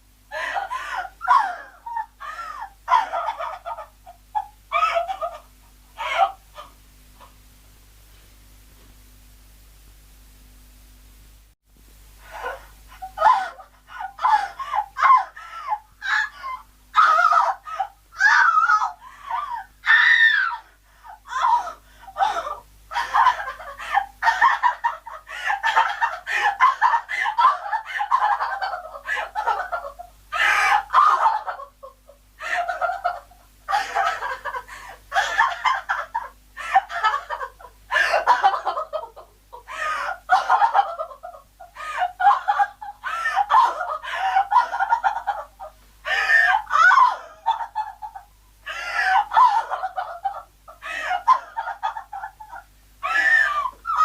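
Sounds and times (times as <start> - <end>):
woman crying hysterically: 0.3 - 7.3, 12.3 - 54.0.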